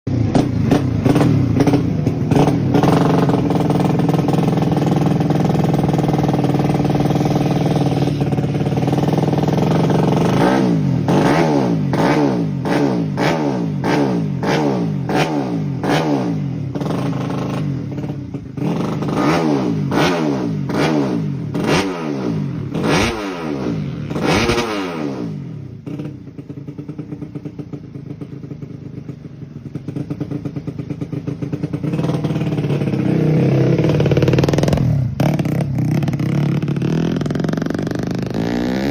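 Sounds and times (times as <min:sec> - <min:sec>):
motorcycle engine revving: 0:00.1 - 0:38.9.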